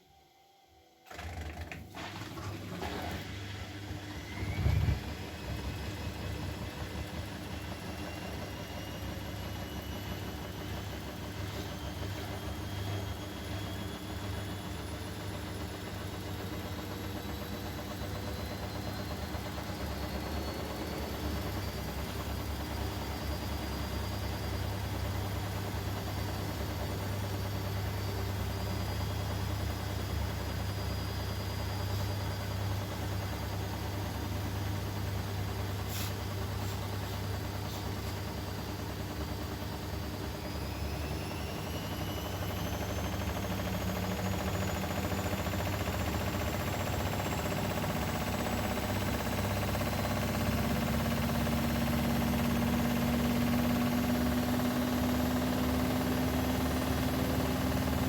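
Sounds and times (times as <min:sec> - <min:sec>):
washing machine motor whine: 0:00.0 - 0:58.0.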